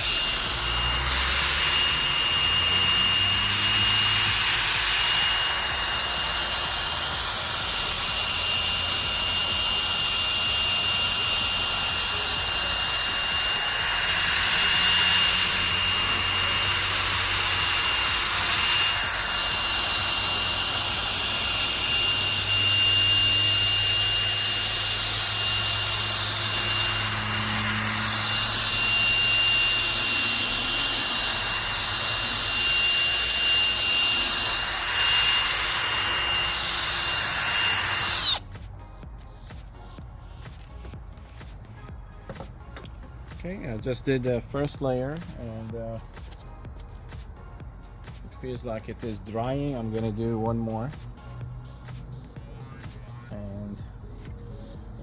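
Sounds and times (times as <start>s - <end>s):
electric drill whining: 0.0s - 55.0s.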